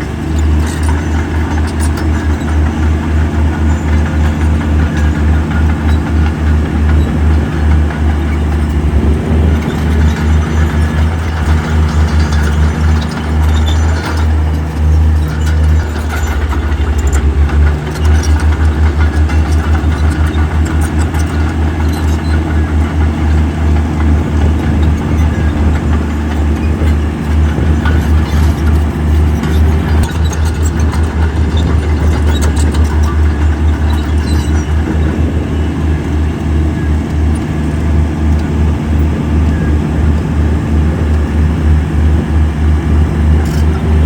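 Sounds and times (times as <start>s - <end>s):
diesel engine rumbling: 0.0s - 44.0s.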